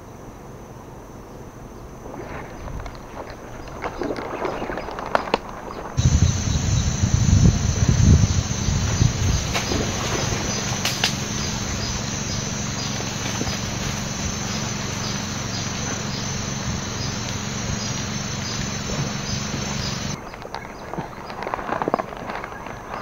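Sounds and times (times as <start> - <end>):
insects chirring: 0.0 - 23.0
steady rushing noise: 1.0 - 20.2.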